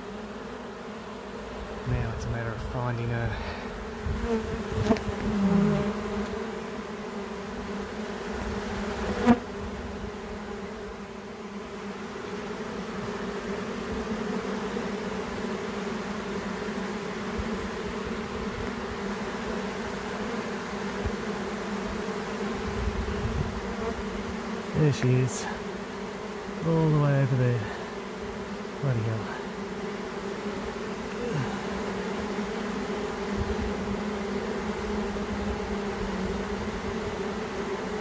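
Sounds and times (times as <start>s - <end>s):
honeybees buzzing: 0.0s - 38.0s.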